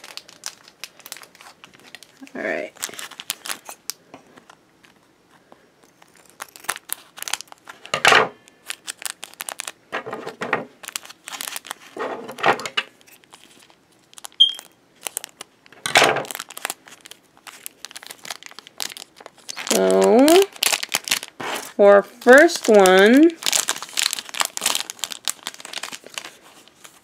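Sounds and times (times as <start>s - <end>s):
foil wrapper crinkling: 0.0s - 5.0s, 5.8s - 27.0s.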